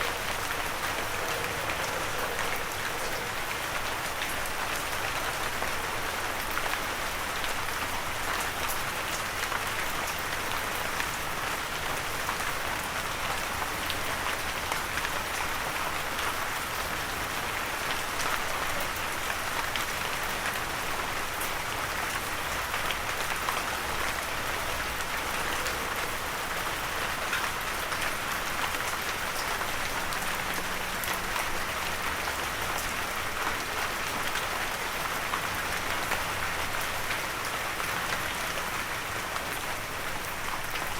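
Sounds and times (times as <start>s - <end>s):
light rain pattering: 0.0s - 40.9s.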